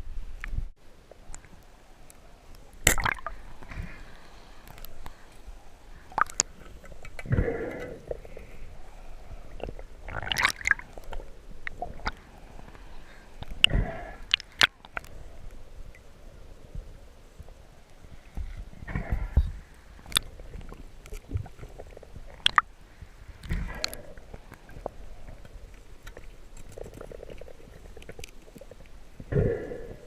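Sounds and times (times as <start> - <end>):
water sloshing and gurgling: 1.0 - 30.0.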